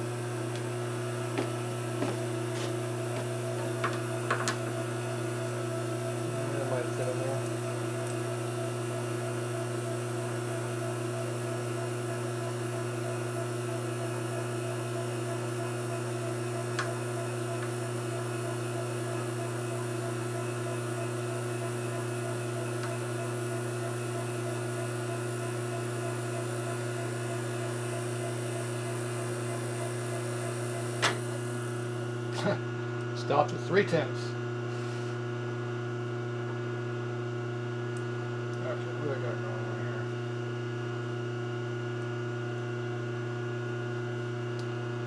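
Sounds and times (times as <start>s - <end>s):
electric motor hum: 0.0s - 45.0s.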